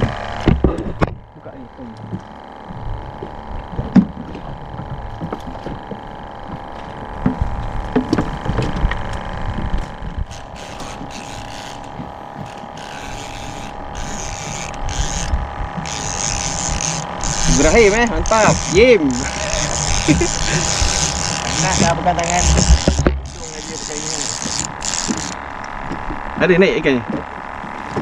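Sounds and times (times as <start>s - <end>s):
boat motor humming: 0.0s - 28.0s
gear knocking and clattering: 3.0s - 26.4s.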